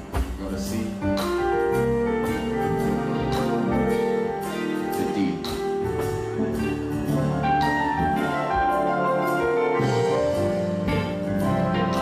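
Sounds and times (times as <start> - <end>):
drum and cymbal hits: 0.0 - 12.0
sustained keyboard chords: 0.0 - 12.0.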